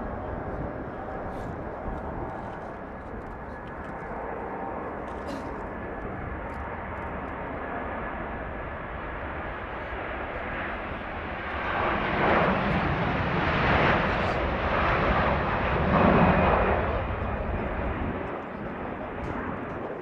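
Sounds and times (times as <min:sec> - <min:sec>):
jet engines roaring at take-off: 0:00.0 - 0:20.0.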